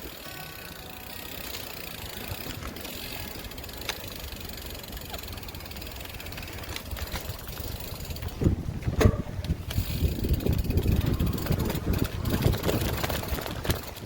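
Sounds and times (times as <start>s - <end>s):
bicycle riding noise: 0.0s - 14.0s
road traffic rumble: 0.0s - 14.0s.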